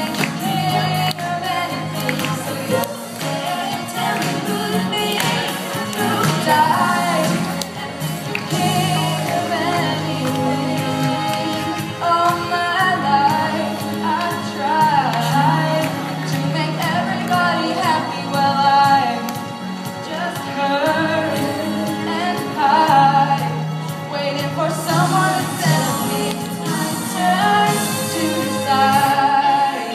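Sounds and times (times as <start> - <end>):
steady bass line: 0.0 - 29.7
instrumental accompaniment: 0.0 - 29.9
person singing: 0.0 - 29.9.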